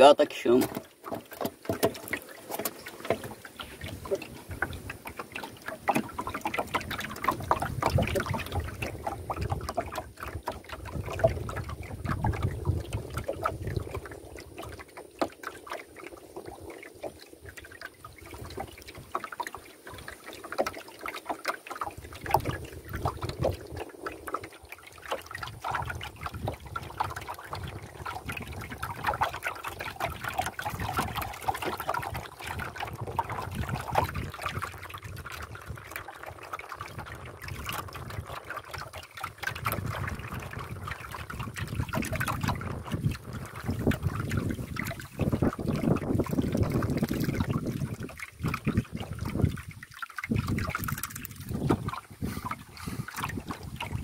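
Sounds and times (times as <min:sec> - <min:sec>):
small splashes and knocks: 0:00.0 - 0:54.0
water lapping against a canoe: 0:00.0 - 0:54.0.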